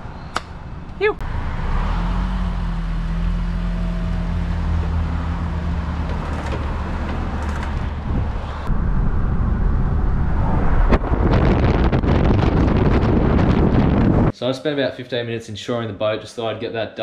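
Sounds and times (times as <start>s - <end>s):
road and wind noise: 0.0s - 14.3s.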